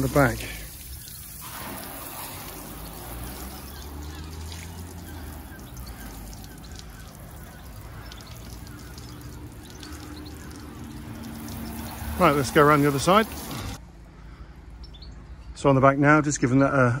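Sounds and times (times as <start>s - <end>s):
water spraying on panels: 0.0s - 13.8s.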